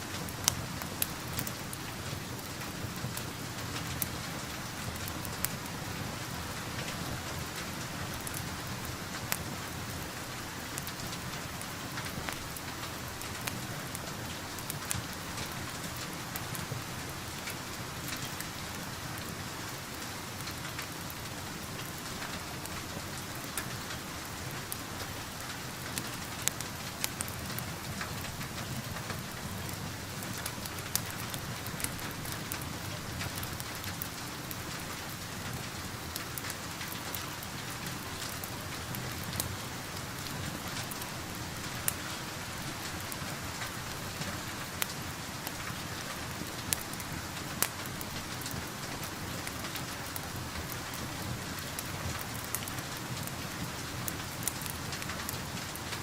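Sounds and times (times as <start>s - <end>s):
steady rain falling: 0.0s - 56.0s
wood fire crackling: 0.0s - 56.0s.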